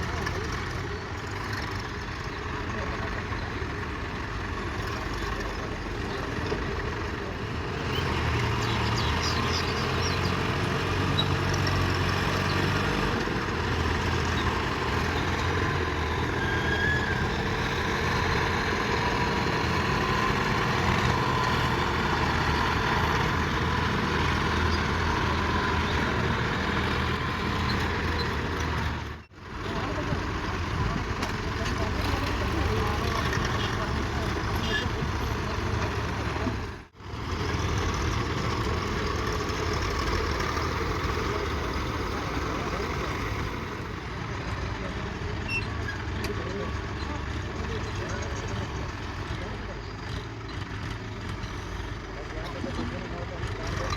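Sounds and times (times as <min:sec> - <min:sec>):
heavy vehicle engine running: 0:00.0 - 0:53.9.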